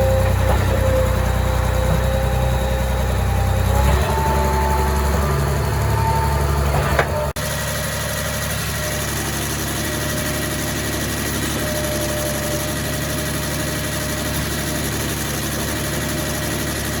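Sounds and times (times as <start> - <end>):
concrete pump engine running: 0.0 - 17.0.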